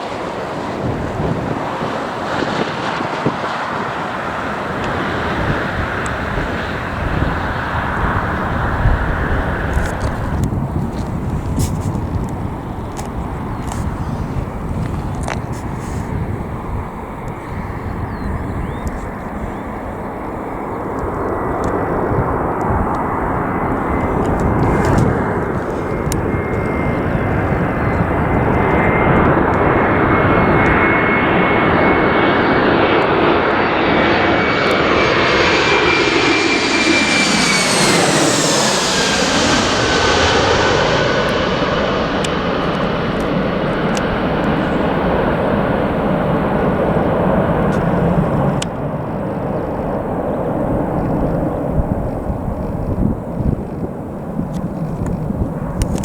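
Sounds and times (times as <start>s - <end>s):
aircraft engines passing: 0.0s - 56.0s.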